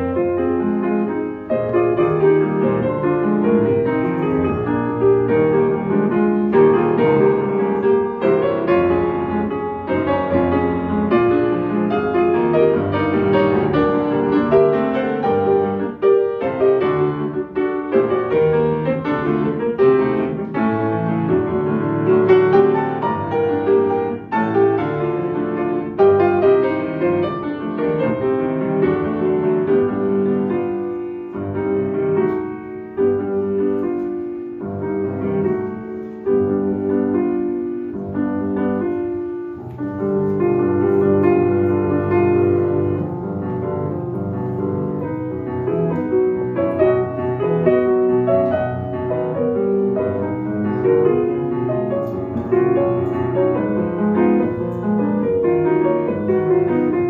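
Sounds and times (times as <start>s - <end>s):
grand piano playing classical music: 0.0s - 57.0s.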